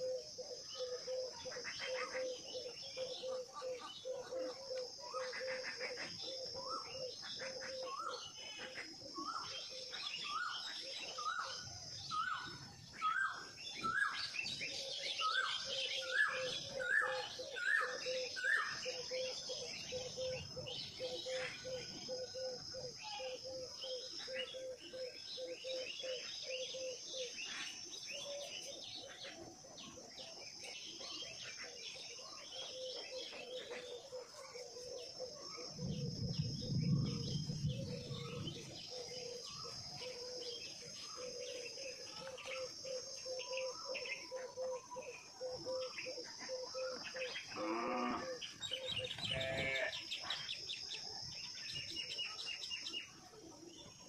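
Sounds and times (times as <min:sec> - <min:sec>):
birds chirping: 0:00.0 - 0:54.0
insect drone: 0:00.0 - 0:54.0.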